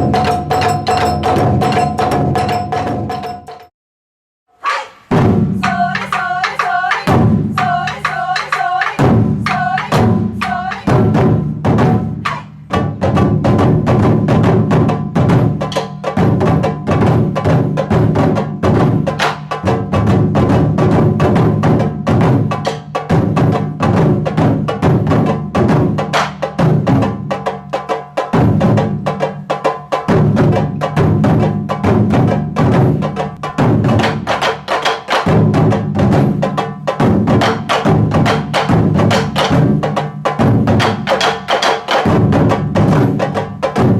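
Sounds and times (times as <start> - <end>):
taiko drums playing fast rhythm: 0.0 - 3.7, 4.7 - 43.9.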